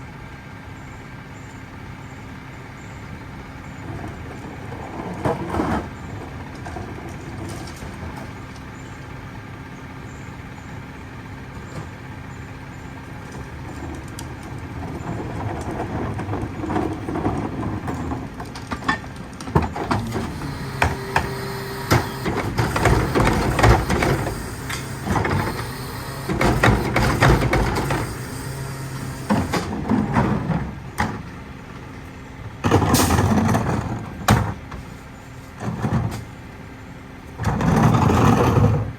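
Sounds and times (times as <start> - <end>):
garbage truck engine running: 0.0 - 38.9.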